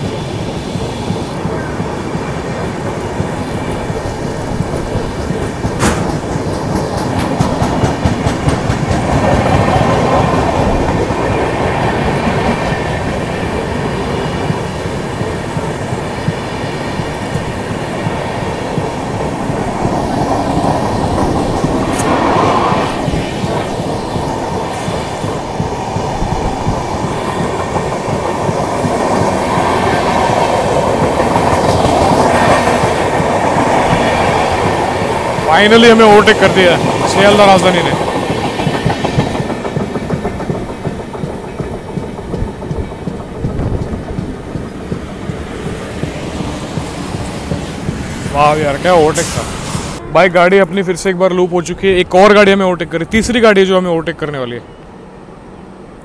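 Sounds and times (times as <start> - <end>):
clickety-clack over rail joints: 0.0 - 50.0
train wheels rumbling: 0.0 - 56.0.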